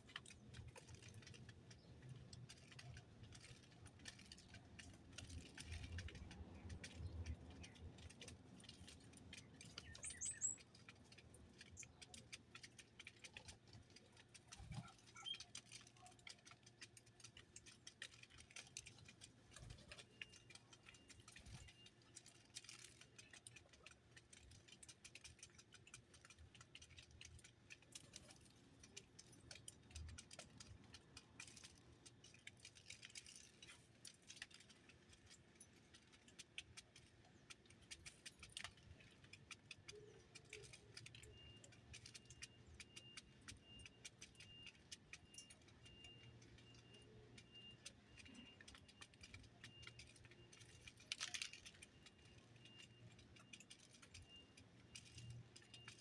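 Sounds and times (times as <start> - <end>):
birds pecking at seed feeder: 0.0 - 56.0.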